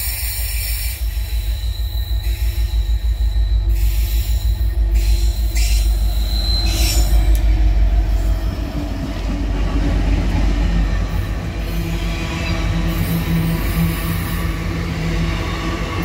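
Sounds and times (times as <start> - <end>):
diesel locomotive engines rumbling: 0.0 - 16.0
steel wheels on rails: 0.0 - 16.0.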